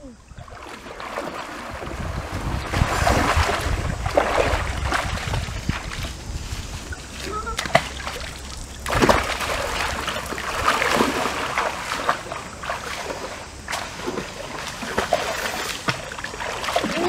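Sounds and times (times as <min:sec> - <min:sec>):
water splashing from wading: 0:00.0 - 0:17.0.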